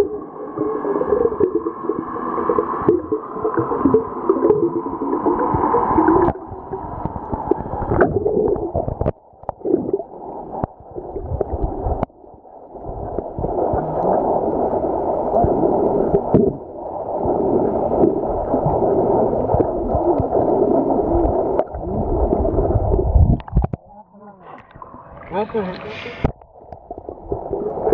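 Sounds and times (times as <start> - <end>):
muffled underwater gurgling: 0.0 - 27.9.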